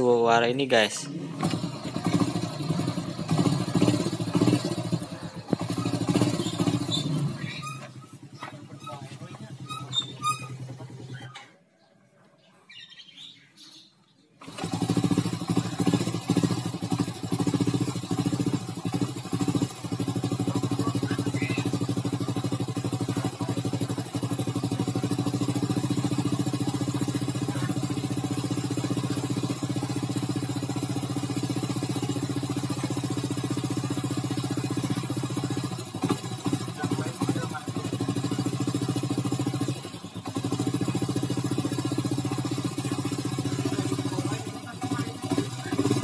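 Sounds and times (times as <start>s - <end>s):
motorcycle engine starting and idling: 0.0s - 11.8s, 13.8s - 46.0s.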